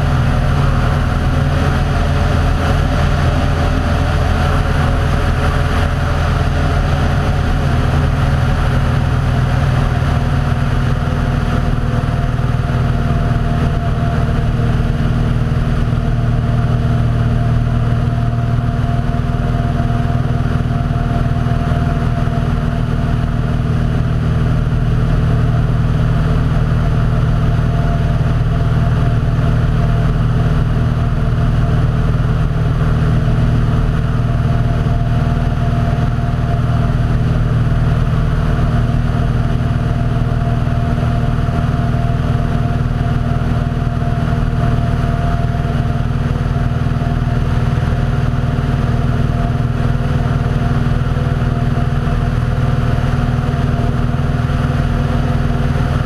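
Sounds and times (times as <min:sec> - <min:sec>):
small aircraft engine drone: 0:00.0 - 0:56.0.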